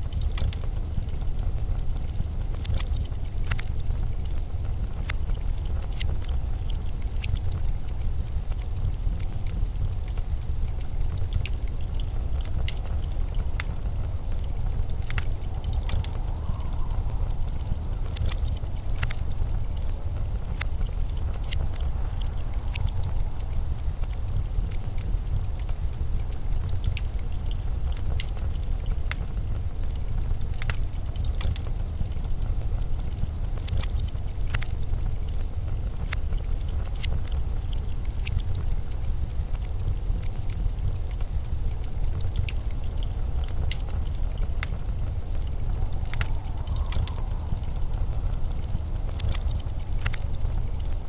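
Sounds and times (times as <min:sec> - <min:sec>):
blizzard wind rumble: 0:00.0 - 0:51.0
sharp crackles and ticks: 0:00.0 - 0:51.0.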